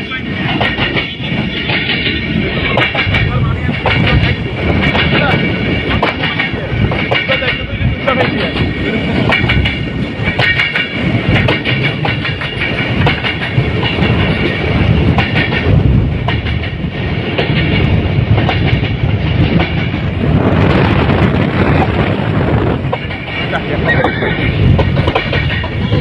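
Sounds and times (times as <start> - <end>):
rush of noise: 0.0 - 26.0
locomotive low rumble: 0.5 - 26.0
wheels clicking over rail joints: 0.5 - 26.0.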